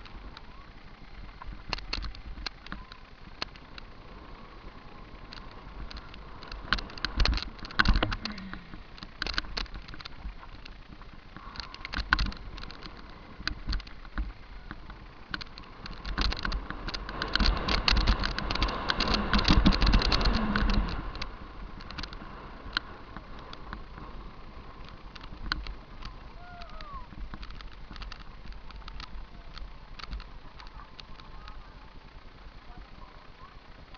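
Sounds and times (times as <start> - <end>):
bike chain and frame rattling: 0.0 - 33.9
wind rumbling on microphone: 0.0 - 33.9.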